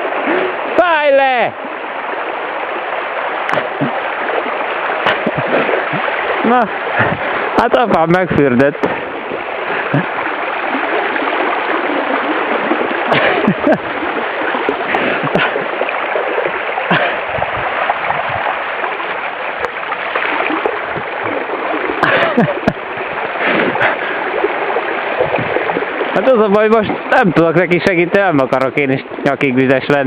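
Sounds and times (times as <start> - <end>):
floodwater rushing: 0.0 - 30.0
water splashes: 0.0 - 30.0.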